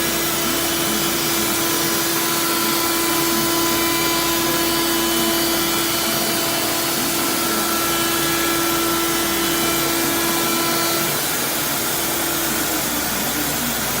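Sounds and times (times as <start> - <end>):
router milling plastic: 0.0 - 14.0.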